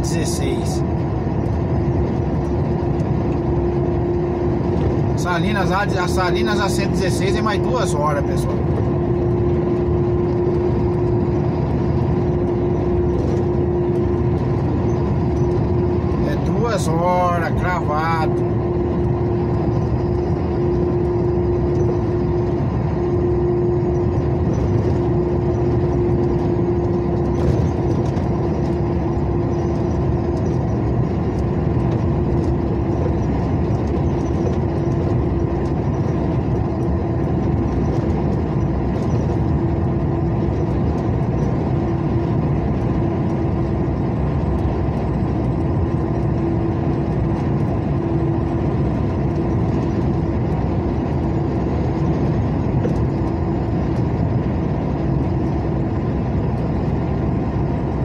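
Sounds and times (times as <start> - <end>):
constant droning tone: 0.0 - 58.0
truck engine and road rumble: 0.0 - 58.0.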